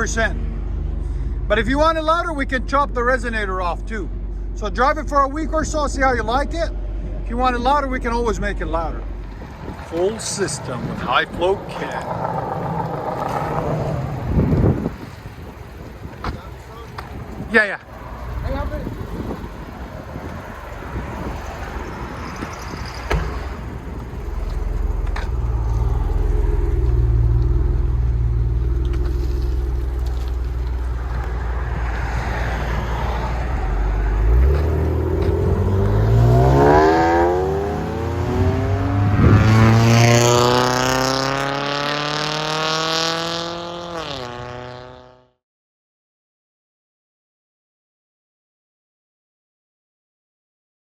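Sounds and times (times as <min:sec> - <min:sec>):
car engine rumbling and accelerating: 0:00.0 - 0:45.4.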